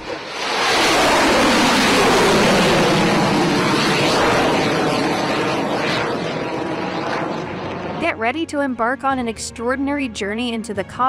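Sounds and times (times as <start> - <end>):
rocket engines roaring: 0.0 - 9.3.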